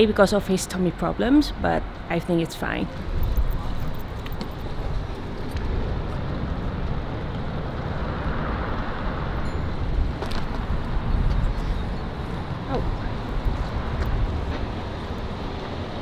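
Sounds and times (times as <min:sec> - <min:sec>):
city traffic rumble: 0:00.0 - 0:16.0
wind buffeting microphone: 0:00.0 - 0:16.0.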